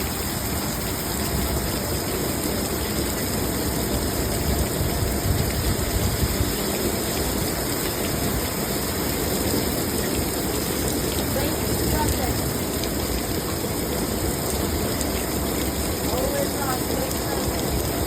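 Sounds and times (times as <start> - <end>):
heavy rain downpour: 0.0 - 18.0.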